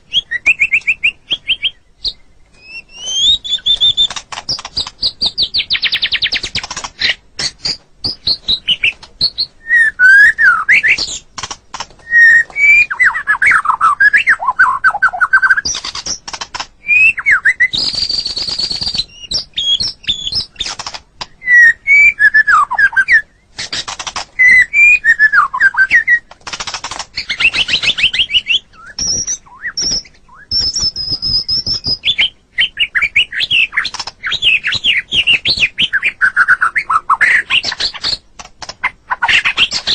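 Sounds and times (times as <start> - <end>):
songbird singing varied song: 0.0 - 38.2.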